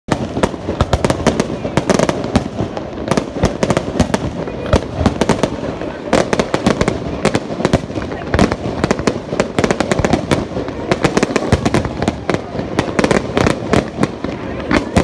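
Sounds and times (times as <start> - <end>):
fireworks bursting: 0.1 - 15.0.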